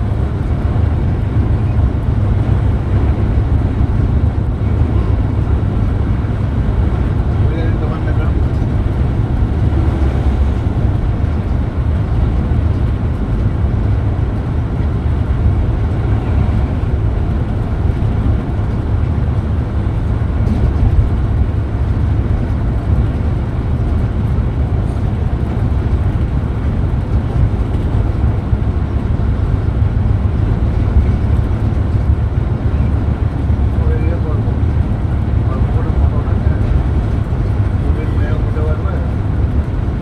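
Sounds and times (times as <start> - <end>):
coach engine and road rumble: 0.0 - 40.0.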